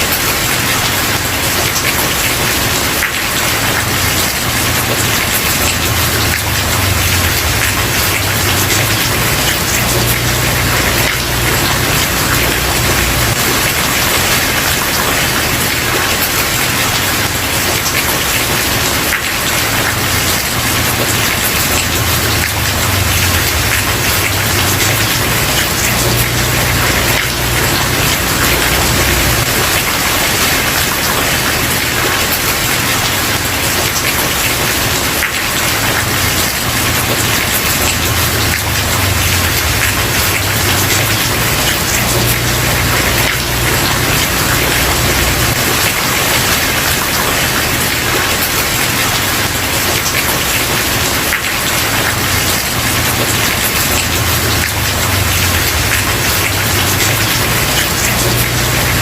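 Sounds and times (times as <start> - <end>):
heavy rain on wooden porch: 0.0 - 59.0.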